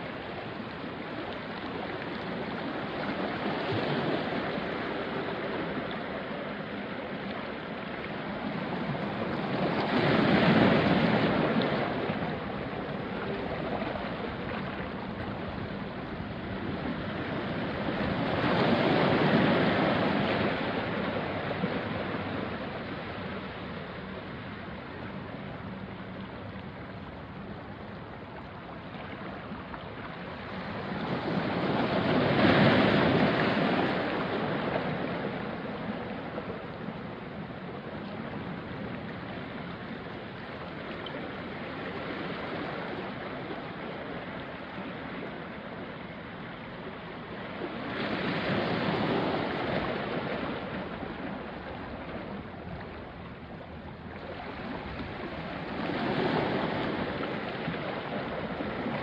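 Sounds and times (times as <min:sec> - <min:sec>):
waves washing onto rocky shore: 0:00.0 - 0:26.1, 0:26.7 - 0:59.0.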